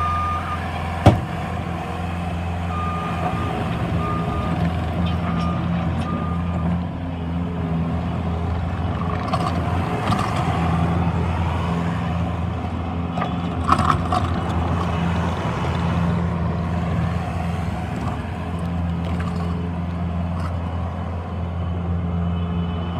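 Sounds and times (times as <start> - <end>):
diesel engine humming: 0.0 - 22.9.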